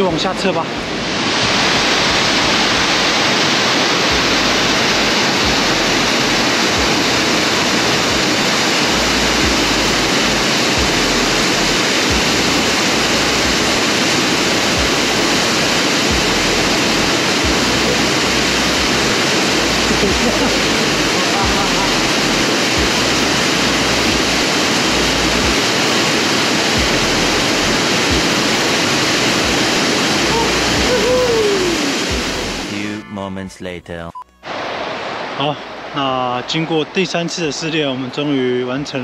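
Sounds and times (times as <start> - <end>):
waterfall rushing: 0.0 - 33.0, 34.5 - 39.0.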